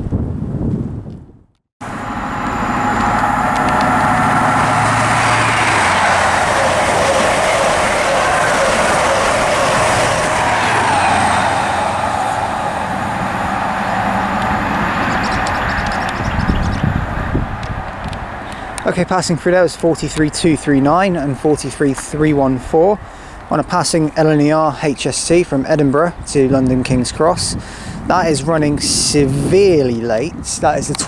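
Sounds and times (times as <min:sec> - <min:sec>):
train passing at speed: 0:01.8 - 0:31.0
wheels rushing on rail: 0:01.8 - 0:31.0.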